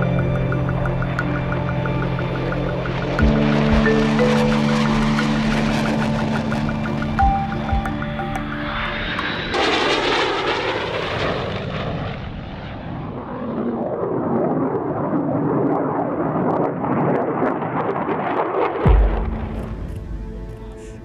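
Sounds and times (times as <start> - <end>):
fighter jet flying past: 0.0 - 21.0.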